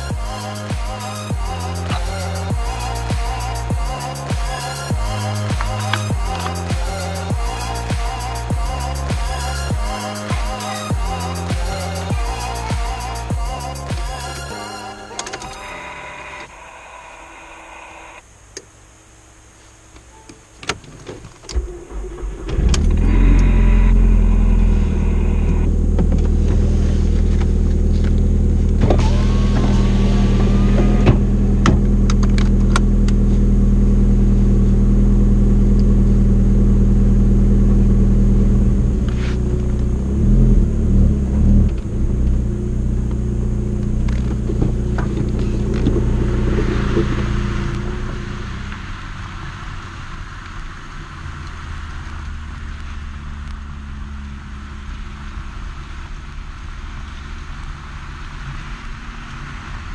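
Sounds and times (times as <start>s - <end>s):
car engine idling and revving: 0.0s - 19.9s, 21.4s - 59.9s.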